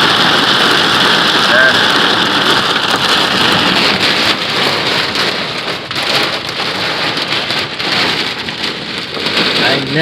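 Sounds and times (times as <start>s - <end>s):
heavy rain on a vehicle: 0.0s - 10.0s.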